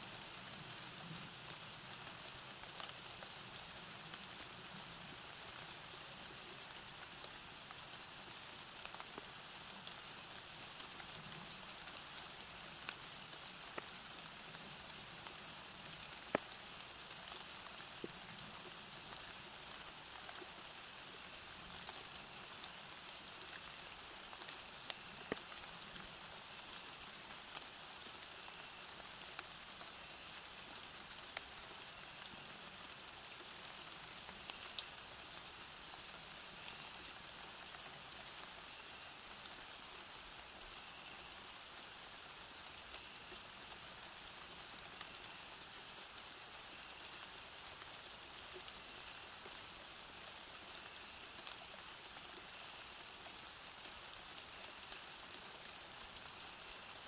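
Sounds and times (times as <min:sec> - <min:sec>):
steady rain falling: 0:00.0 - 0:57.0
raindrop ticks: 0:00.3 - 0:49.8, 0:50.4 - 0:56.9.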